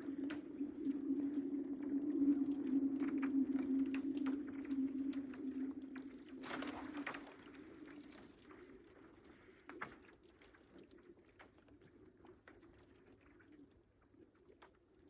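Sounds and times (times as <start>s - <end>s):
low hum of lake ice: 0.0s - 15.0s.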